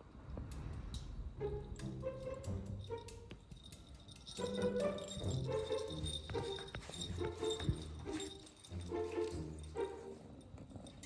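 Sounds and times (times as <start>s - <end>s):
soft background music: 0.6s - 11.0s.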